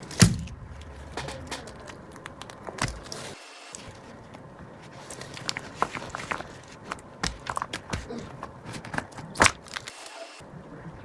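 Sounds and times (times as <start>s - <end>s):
squishy toy crackling: 0.0s - 10.2s.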